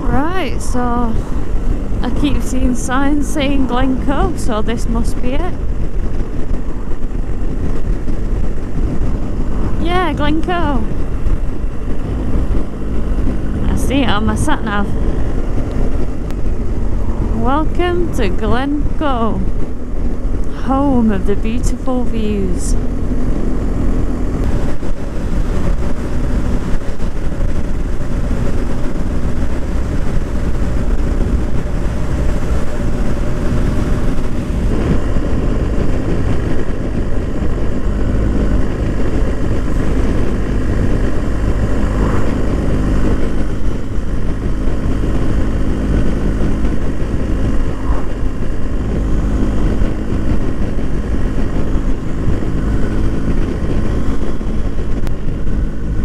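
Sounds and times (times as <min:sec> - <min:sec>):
motorcycle engine cruising: 0:00.0 - 0:56.0
wind rushing on microphone: 0:00.0 - 0:56.0.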